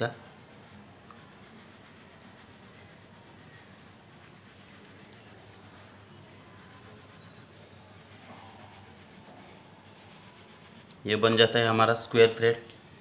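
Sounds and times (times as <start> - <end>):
pencil scratching on paper: 0.0 - 12.6.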